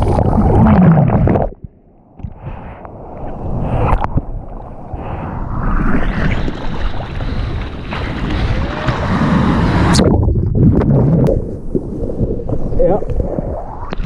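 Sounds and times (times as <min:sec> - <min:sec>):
water splashing and churning: 0:00.0 - 0:14.0.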